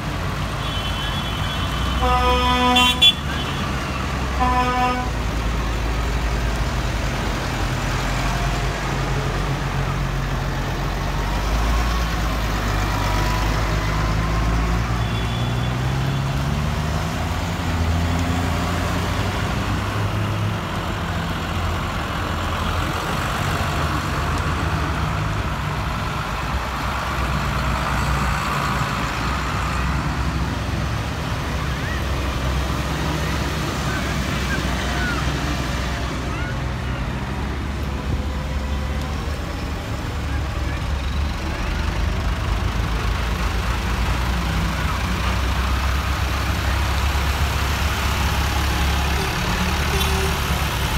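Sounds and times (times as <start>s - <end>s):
tractor engines driving past: 0.0s - 50.9s.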